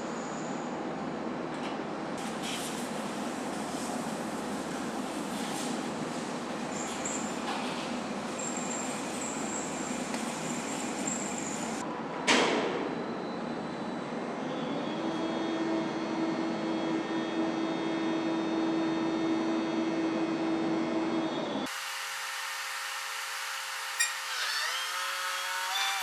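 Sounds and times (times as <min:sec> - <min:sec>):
machinery hum: 0:00.0 - 0:12.2, 0:12.9 - 0:21.6.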